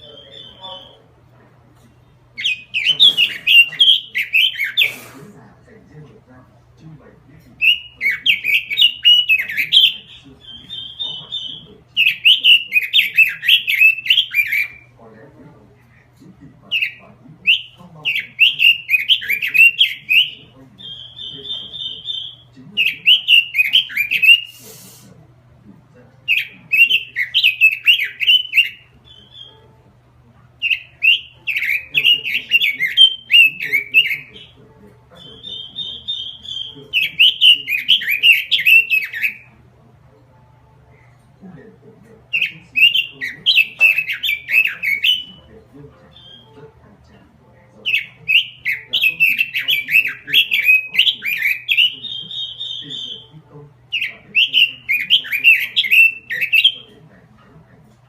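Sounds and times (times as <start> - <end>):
bird singing warbling phrases: 0.0 - 58.0
faint low hum: 0.0 - 58.0.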